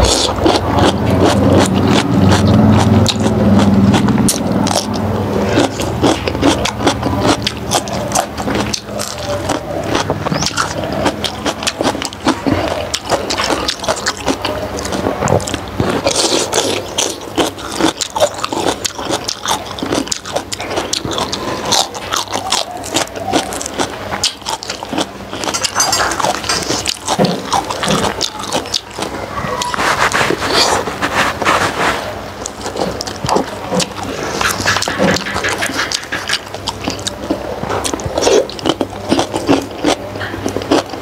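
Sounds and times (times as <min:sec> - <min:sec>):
person chewing and lip-smacking: 0:00.0 - 0:41.0.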